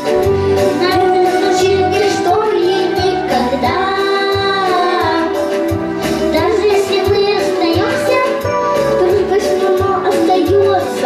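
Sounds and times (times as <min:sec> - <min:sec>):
backing track with steady beat: 0:00.0 - 0:11.0
children singing into microphones: 0:00.7 - 0:05.6, 0:06.3 - 0:11.0.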